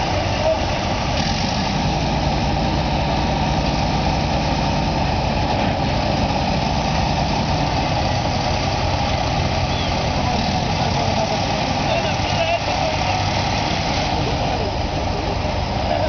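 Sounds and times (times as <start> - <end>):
large engine idling: 0.0 - 16.0.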